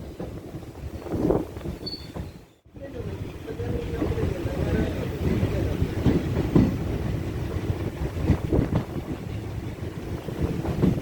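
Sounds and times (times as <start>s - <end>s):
train rumble with knocks: 0.0s - 11.0s
wind buffeting microphone: 0.0s - 11.0s.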